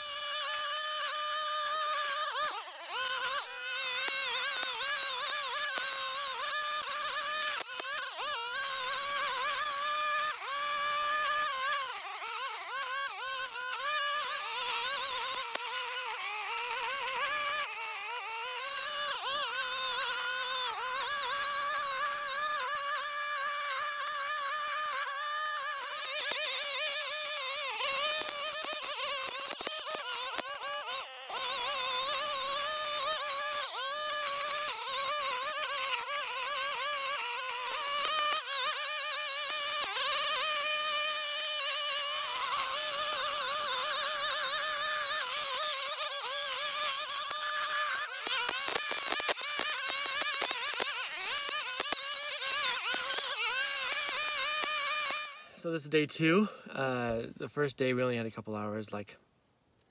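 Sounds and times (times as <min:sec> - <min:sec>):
string trimmer cutting grass: 0:00.0 - 0:58.3.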